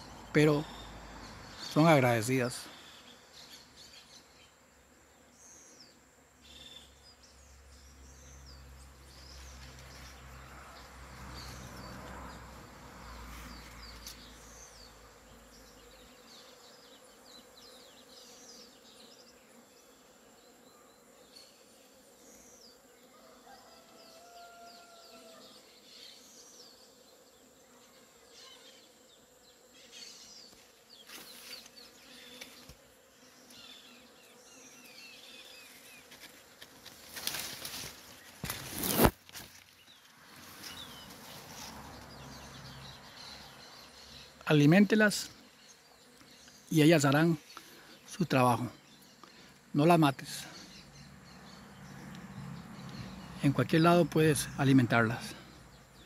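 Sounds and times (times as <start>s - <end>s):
bees buzzing: 0.0s - 24.1s, 25.2s - 56.0s.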